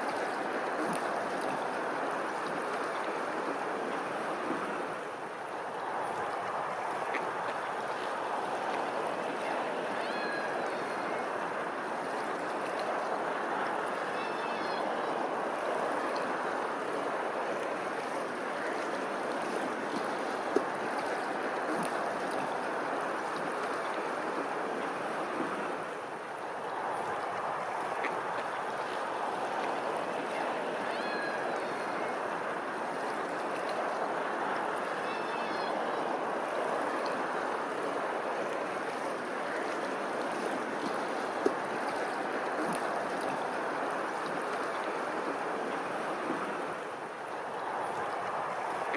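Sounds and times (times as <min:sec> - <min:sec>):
water rushing: 0:00.0 - 0:48.9.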